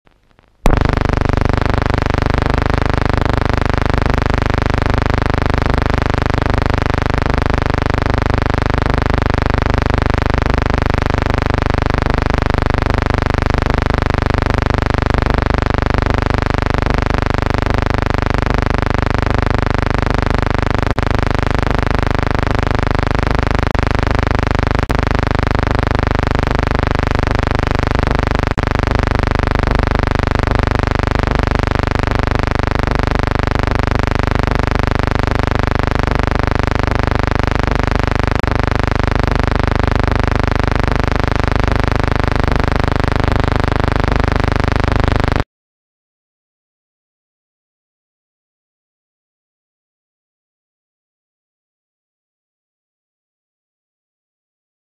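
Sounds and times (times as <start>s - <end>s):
electrical buzzing hum: 0.2s - 45.4s.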